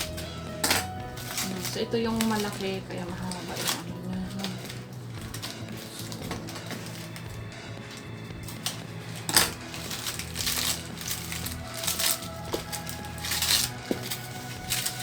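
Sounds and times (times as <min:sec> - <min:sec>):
plastic wrapping rustling and crinkling: 0:00.0 - 0:15.0.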